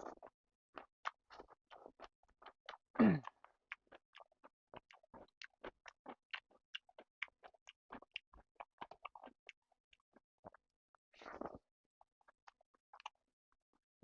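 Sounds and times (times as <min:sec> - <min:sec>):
person chewing food: 0:00.0 - 0:13.7.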